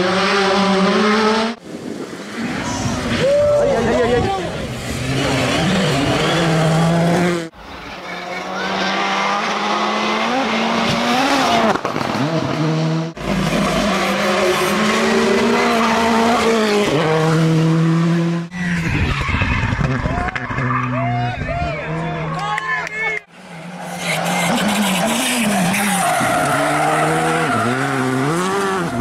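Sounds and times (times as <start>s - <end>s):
rally car engines revving: 0.0s - 22.4s, 23.2s - 29.0s
tyres skidding: 1.6s - 22.4s, 23.2s - 29.0s.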